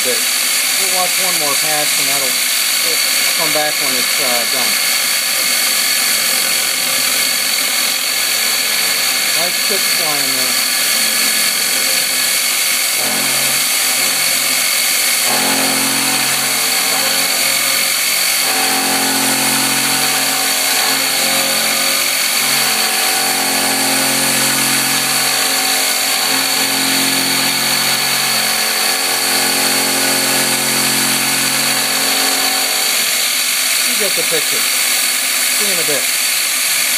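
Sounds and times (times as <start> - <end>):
milling machine cutting steel: 0.0 - 36.9.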